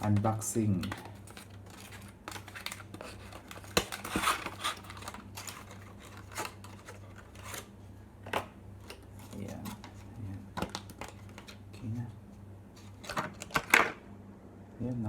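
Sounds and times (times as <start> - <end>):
packaging being handled: 0.0 - 12.0, 12.7 - 13.8.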